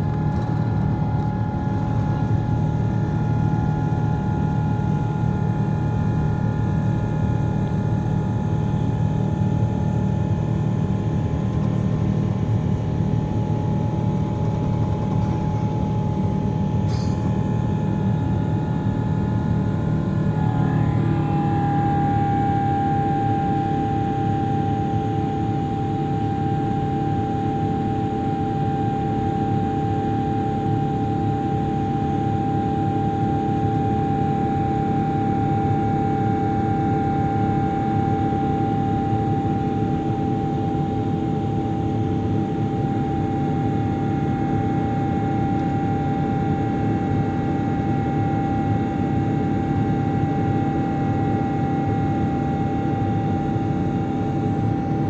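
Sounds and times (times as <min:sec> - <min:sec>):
airliner cabin engine drone: 0:00.0 - 0:55.0
steady engine whine: 0:00.0 - 0:55.0.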